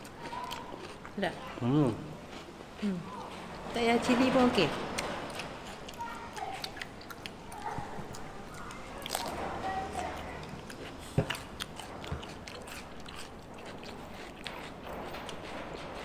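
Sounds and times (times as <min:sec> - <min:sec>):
crunchy food chewing: 0:00.0 - 0:16.0.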